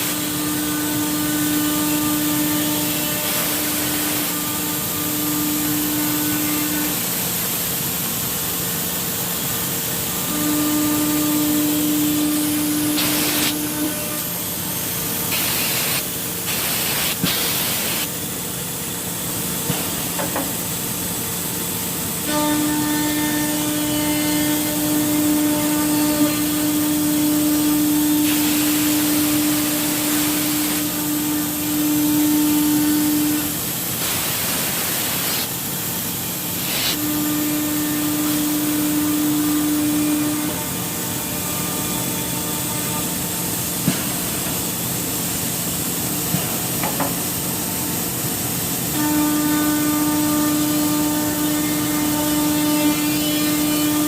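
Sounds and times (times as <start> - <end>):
hiss of wood cutting: 0.0 - 18.2, 19.6 - 48.2, 48.8 - 54.0
cnc router spindle hum: 0.0 - 54.0.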